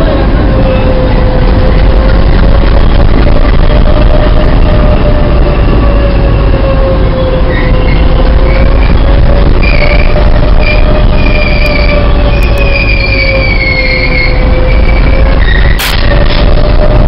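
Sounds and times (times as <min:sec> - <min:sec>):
diesel locomotive engine rumble: 0:00.0 - 0:17.0
steady whine: 0:00.0 - 0:17.0.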